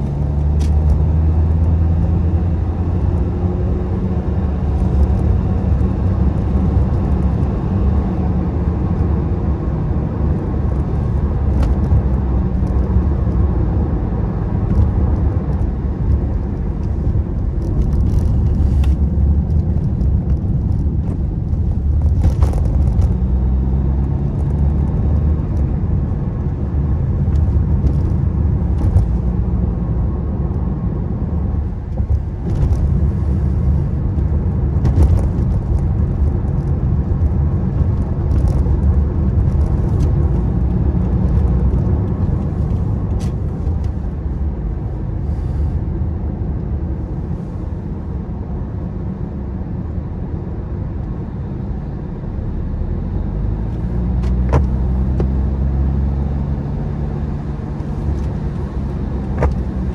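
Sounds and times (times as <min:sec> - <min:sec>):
car cabin road rumble: 0:00.0 - 0:59.9.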